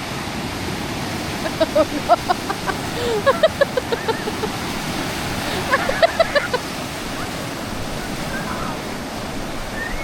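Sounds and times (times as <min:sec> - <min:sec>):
sea waves washing on beach: 0:00.0 - 0:10.0.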